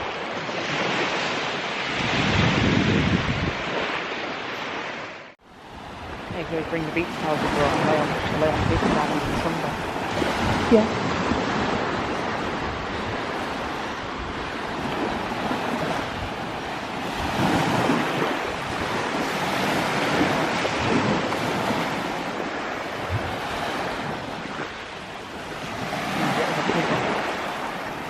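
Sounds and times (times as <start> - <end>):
sea waves washing onto beach: 0.0 - 28.0
wind buffeting microphone: 0.0 - 28.0.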